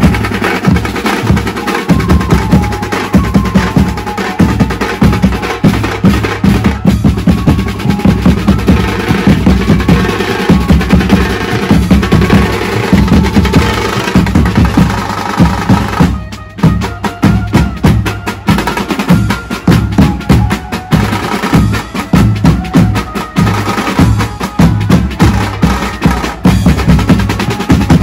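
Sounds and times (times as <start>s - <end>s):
fast loud band drums: 0.0s - 28.0s
melody instrument playing: 0.3s - 26.6s.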